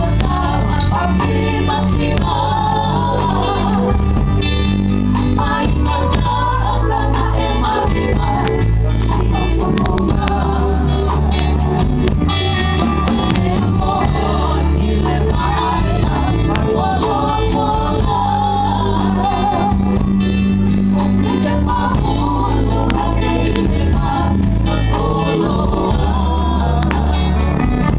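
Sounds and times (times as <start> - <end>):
bass line: 0.0 - 27.9
drum beats: 0.0 - 27.9
guitar: 0.0 - 27.9
people singing: 0.0 - 27.9.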